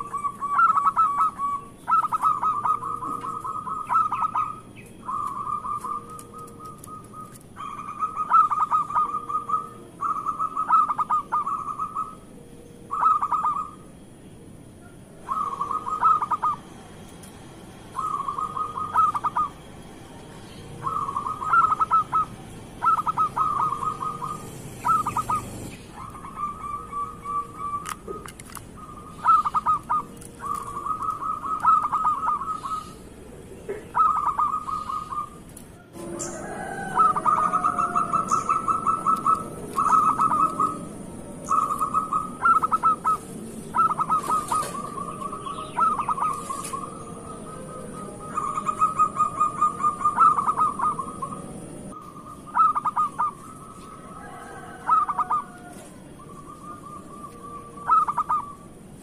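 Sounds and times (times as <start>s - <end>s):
dove cooing: 0.0s - 14.1s, 14.7s - 17.0s, 17.8s - 59.0s.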